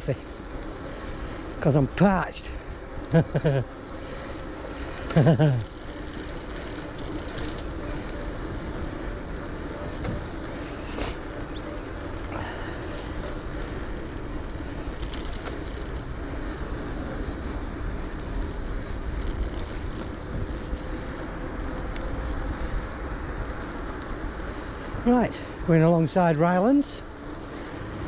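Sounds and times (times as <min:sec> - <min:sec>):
tyre and road rumble: 0:00.0 - 0:28.0
wind buffeting microphone: 0:00.3 - 0:26.1.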